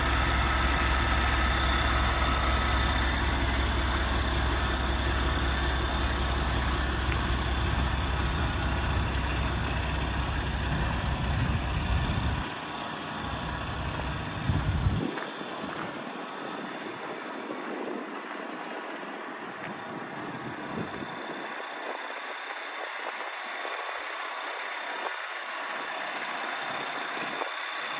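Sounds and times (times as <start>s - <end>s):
diesel truck engine idling: 0.0s - 18.1s, 18.7s - 27.9s.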